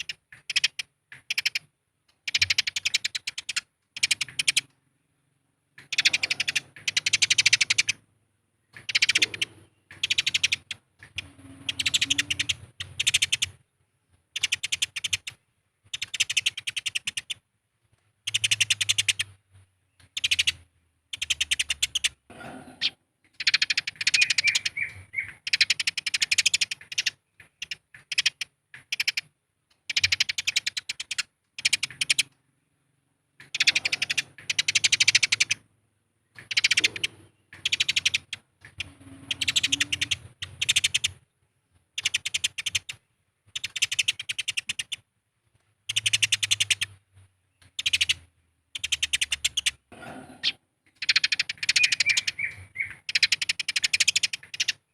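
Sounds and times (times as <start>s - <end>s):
sparrows chirping harshly: 0.0s - 17.4s, 18.2s - 41.3s, 41.9s - 45.1s, 45.8s - 54.9s.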